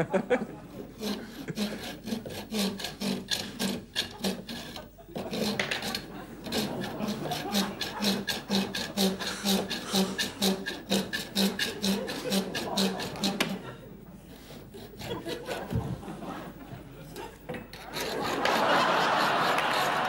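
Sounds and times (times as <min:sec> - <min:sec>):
hand saw sawing: 0:00.7 - 0:16.6, 0:17.6 - 0:20.0.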